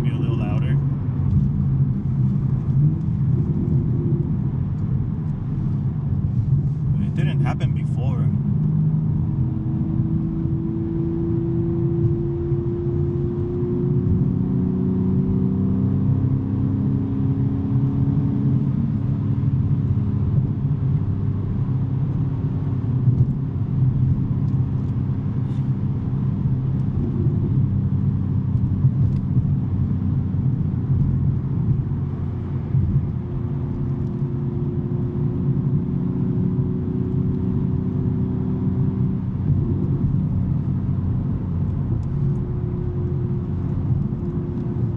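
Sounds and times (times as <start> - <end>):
car engine droning: 0.0 - 44.9
road and tyre noise: 0.0 - 44.9.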